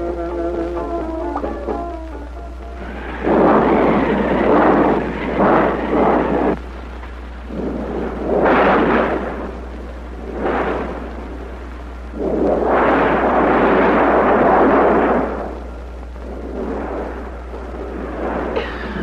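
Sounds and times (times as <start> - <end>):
low soundtrack hum: 0.0 - 19.0
rolling thunder claps: 0.0 - 19.0.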